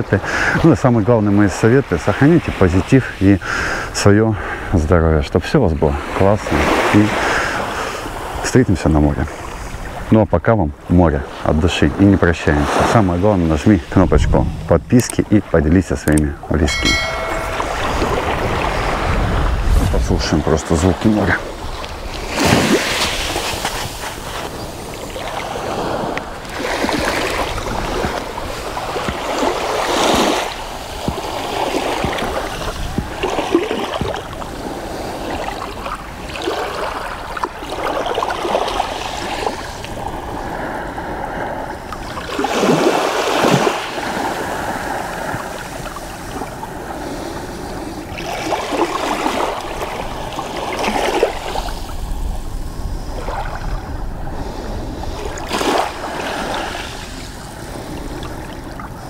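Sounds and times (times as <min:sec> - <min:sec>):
waves lapping on sandy shore: 0:00.0 - 0:59.0.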